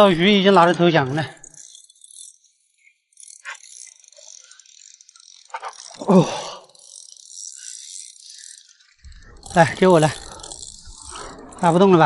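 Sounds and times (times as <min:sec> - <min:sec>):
fishing reel clicking and rattling: 0:00.0 - 0:12.0.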